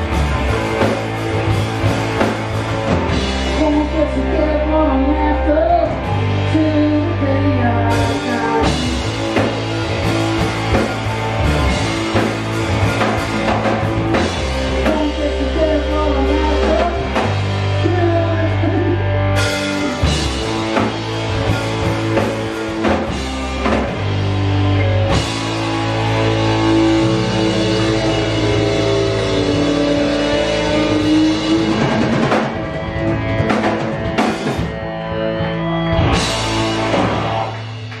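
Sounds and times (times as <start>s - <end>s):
rock band playing: 0.0s - 38.0s.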